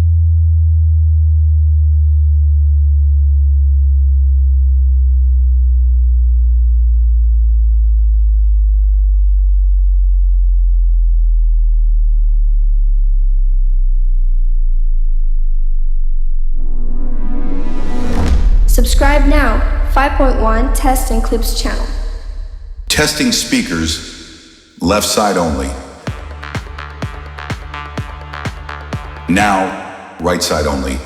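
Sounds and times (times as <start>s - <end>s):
deep subwoofer sine test tone: 0.0s - 24.8s, 25.9s - 31.0s.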